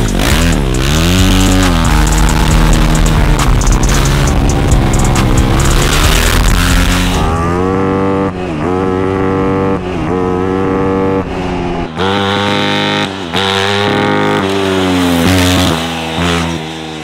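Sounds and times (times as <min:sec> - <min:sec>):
kart engine revving through shifts: 0:00.0 - 0:17.0.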